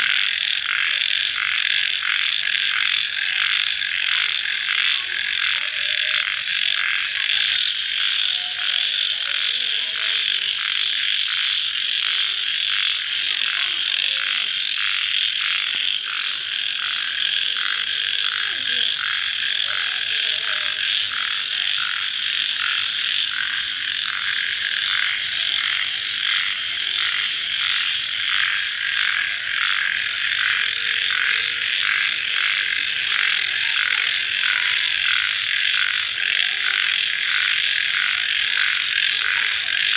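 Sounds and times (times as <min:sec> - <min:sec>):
crickets and frogs chorus: 0:00.0 - 0:39.9.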